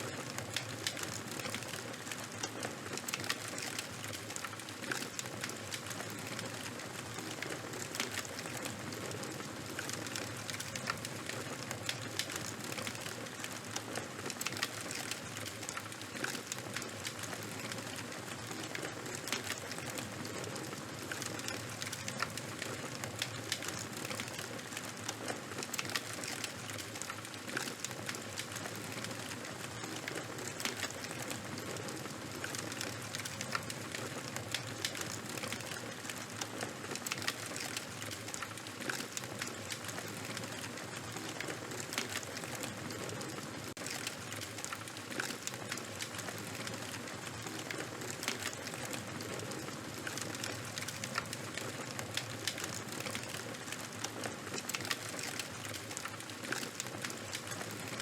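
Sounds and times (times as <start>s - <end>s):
bonfire crackling: 0.0s - 58.0s.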